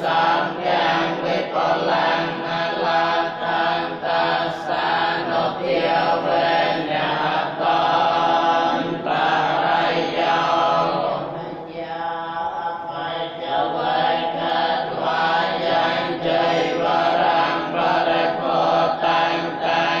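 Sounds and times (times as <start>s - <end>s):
monks chanting together: 0.0s - 20.0s.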